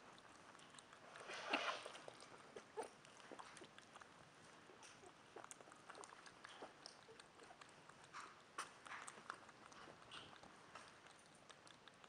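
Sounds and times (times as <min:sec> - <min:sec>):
porcupine gnawing fruit: 0:00.0 - 0:12.0.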